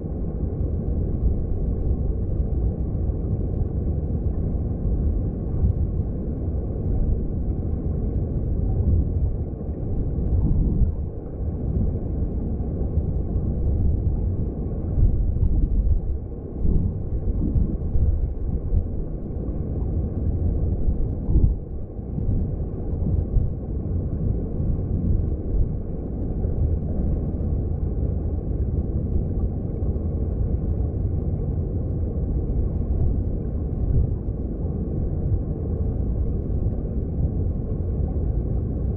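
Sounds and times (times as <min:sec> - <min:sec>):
underwater stream rumble: 0:00.0 - 0:38.9.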